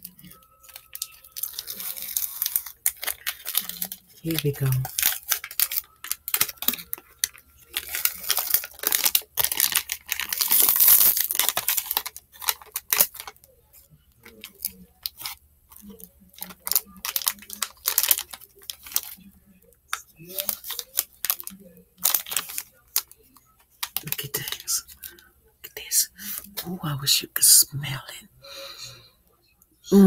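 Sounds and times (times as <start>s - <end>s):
candy wrapper crinkling: 0.0s - 28.2s.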